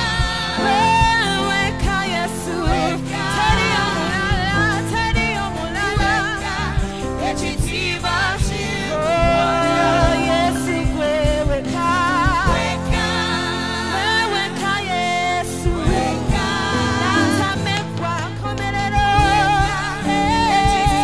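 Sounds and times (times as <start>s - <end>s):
acoustic-electric guitar: 0.0s - 21.0s
keyboard: 0.0s - 21.0s
voices singing with vibrato: 0.0s - 21.0s.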